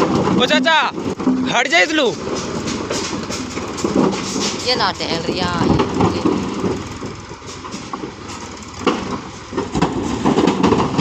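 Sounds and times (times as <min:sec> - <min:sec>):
sharp knocks: 0:00.0 - 0:11.0
tractor diesel engine running: 0:00.0 - 0:11.0.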